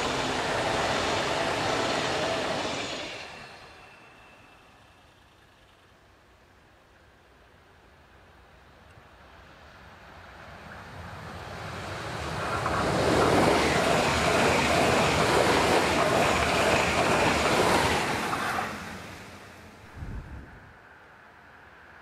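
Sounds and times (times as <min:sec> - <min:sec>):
train passing at speed: 0:00.0 - 0:05.6, 0:07.9 - 0:22.0.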